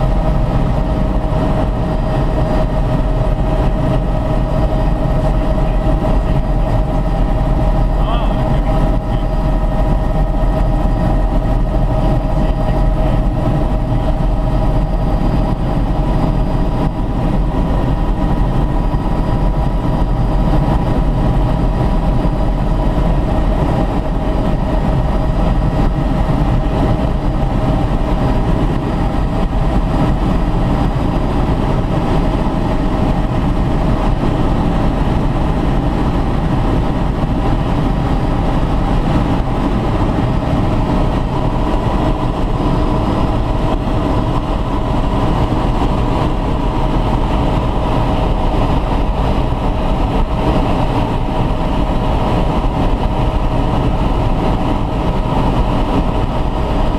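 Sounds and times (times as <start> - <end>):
helicopter engine and rotor drone: 0.0 - 56.9
transmission whine: 0.0 - 56.9.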